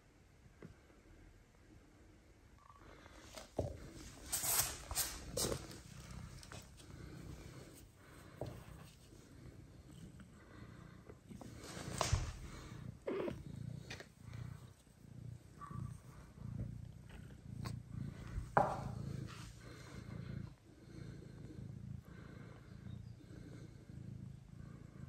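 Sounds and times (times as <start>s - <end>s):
cat purring: 2.6s - 25.0s.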